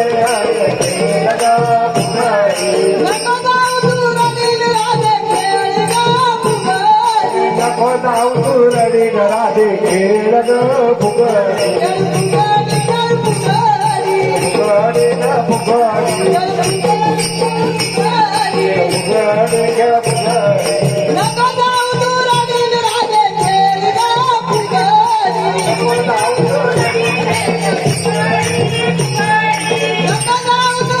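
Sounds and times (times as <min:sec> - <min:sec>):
jingling hand percussion: 0:00.0 - 0:31.0
woman singing: 0:00.0 - 0:31.0.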